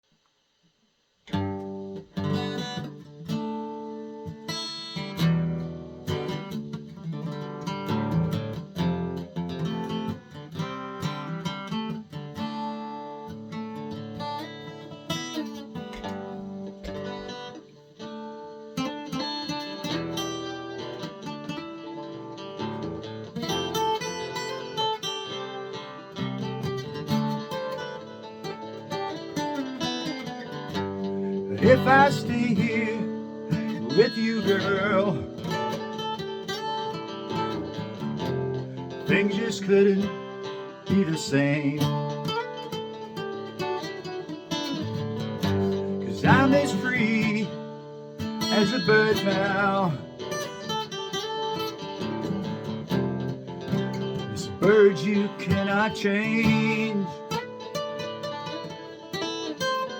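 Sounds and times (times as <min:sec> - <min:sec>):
acoustic guitar strumming chords: 0:01.3 - 0:59.9.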